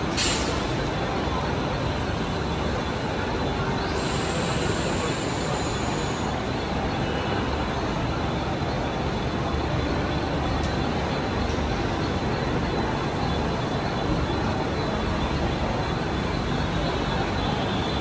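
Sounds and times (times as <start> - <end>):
railway platform din: 0.0 - 18.0
faint high whine: 0.2 - 18.0.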